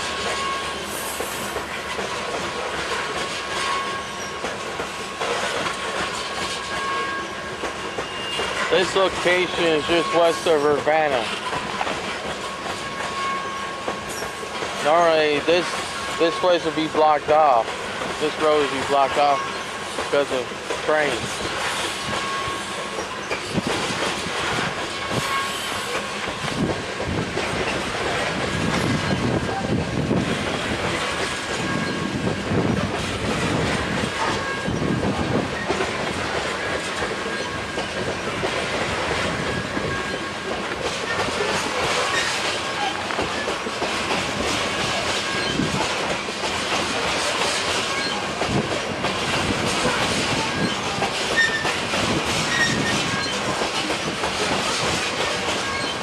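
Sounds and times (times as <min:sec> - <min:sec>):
freight train rolling past: 0:00.0 - 0:56.0
wheels clacking over rail joints: 0:00.0 - 0:56.0.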